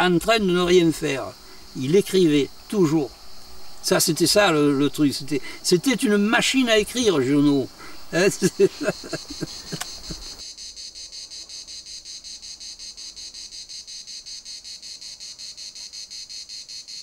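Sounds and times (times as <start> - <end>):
cicadas chirping: 0.0 - 17.0.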